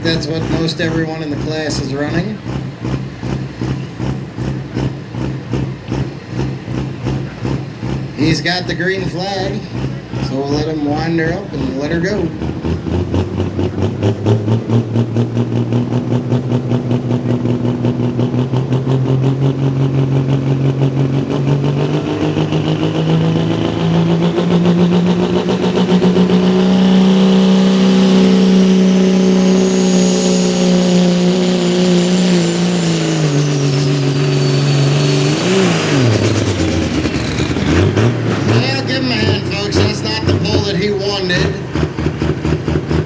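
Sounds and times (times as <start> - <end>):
diesel engine under load: 0.0 - 43.0.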